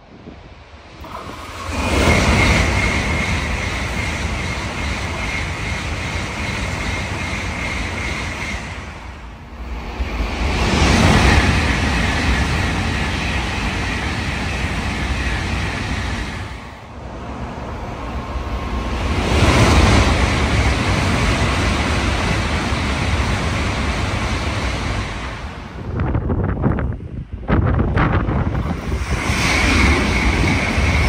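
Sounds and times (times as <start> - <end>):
high-speed trains passing: 0.0 - 31.0.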